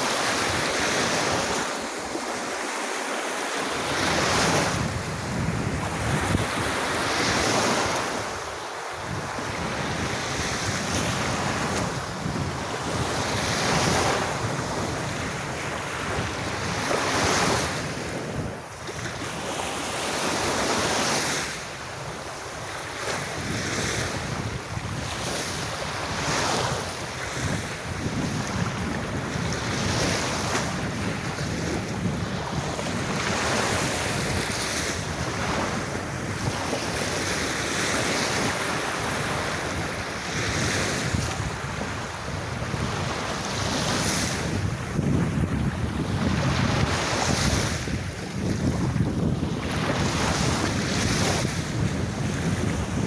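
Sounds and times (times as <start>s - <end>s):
sea waves breaking on beach: 0.0s - 53.0s
wind buffeting microphone: 3.8s - 53.0s.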